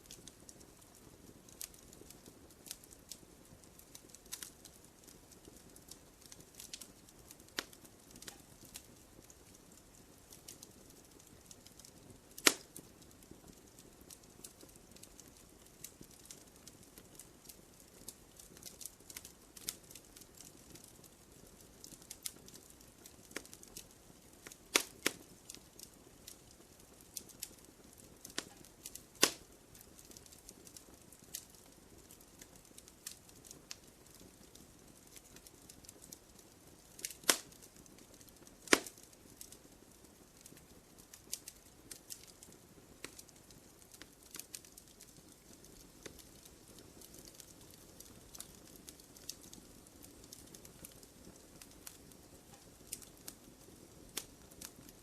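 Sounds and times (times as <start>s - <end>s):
faint hiss: 0.0s - 55.0s
wood fire crackling: 0.0s - 55.0s.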